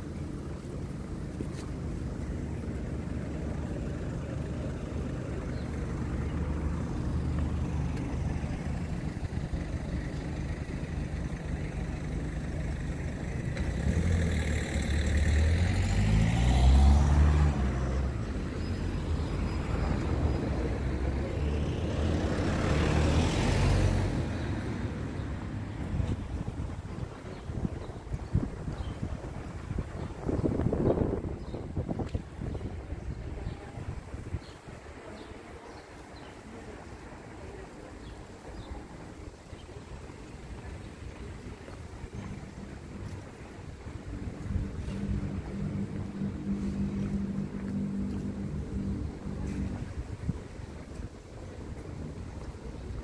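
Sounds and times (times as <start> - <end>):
low street rumble: 0.0 - 53.0
vehicles driving past: 0.0 - 53.0.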